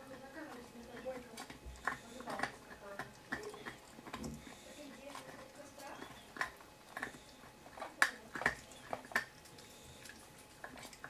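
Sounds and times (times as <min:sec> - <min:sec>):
puppy gnawing a hard chew: 0:00.0 - 0:11.0.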